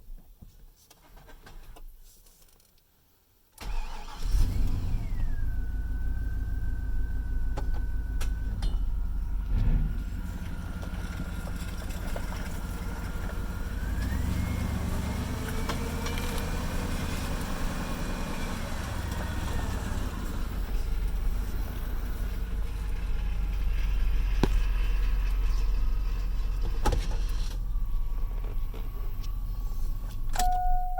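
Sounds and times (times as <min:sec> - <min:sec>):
engine whine: 0:03.6 - 0:30.9
pickup truck engine running: 0:04.7 - 0:30.3.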